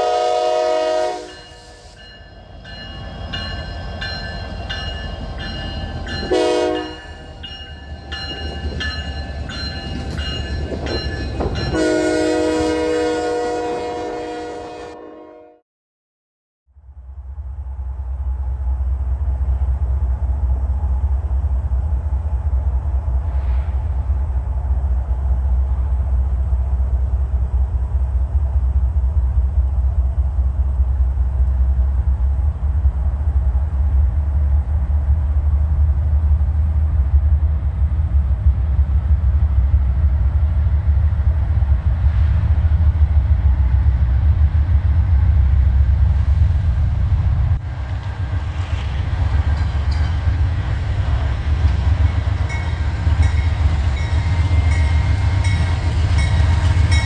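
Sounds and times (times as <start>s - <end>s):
diesel locomotive rumble: 0.0s - 14.7s, 16.8s - 57.0s
wheel and rail noise: 1.2s - 11.8s, 17.3s - 57.0s.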